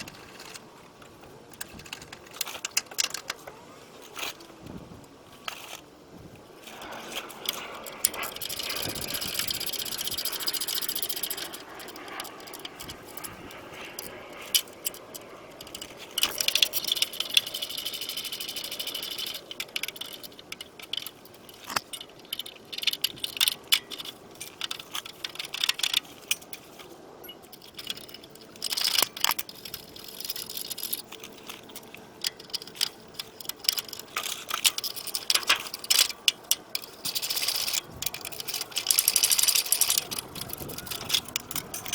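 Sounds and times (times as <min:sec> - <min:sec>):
metal tools clinking: 0:06.6 - 0:41.9
rapid clicking: 0:06.6 - 0:41.9.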